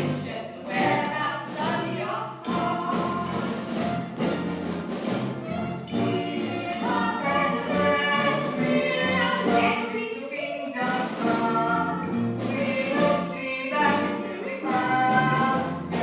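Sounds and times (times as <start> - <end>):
musical accompaniment: 0.0 - 16.0.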